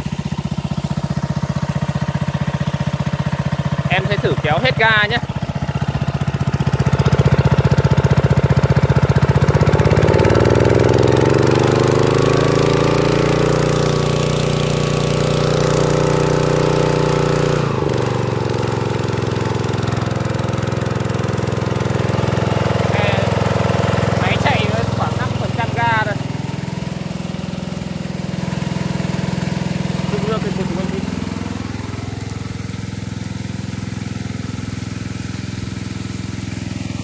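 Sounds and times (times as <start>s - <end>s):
petrol engine at full throttle: 0.0s - 37.0s
water jet hissing: 0.0s - 37.0s.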